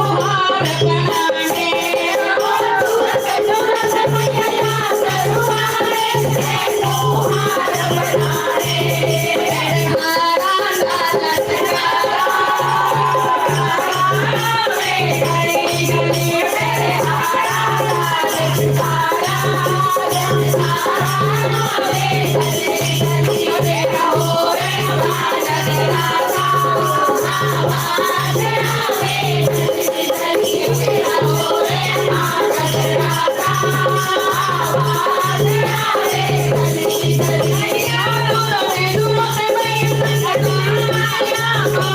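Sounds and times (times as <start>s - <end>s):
person singing devotional melody: 0.0s - 41.9s
rattling shaker percussion: 0.0s - 41.9s.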